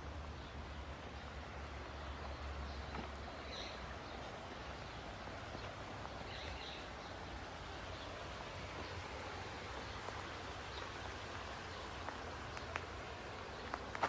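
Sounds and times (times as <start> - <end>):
steady hiss: 1.0 - 14.0.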